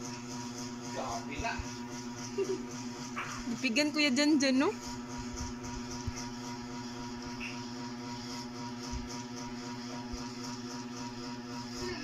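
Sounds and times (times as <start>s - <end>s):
steady motor hum: 0.0s - 12.0s.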